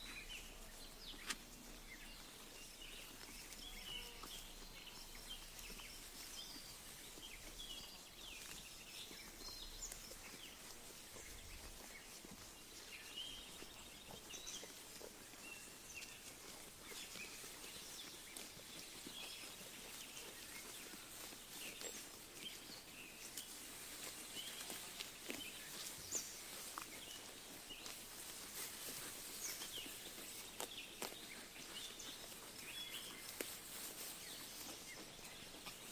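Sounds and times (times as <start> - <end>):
sheep grazing rustles: 0.0 - 35.9.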